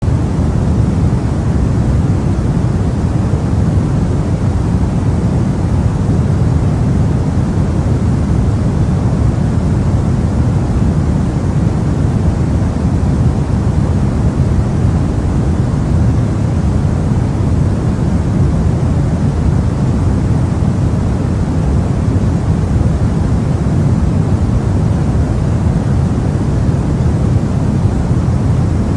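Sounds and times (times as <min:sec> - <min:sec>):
rushing hiss with low rumble: 0:00.0 - 0:28.9.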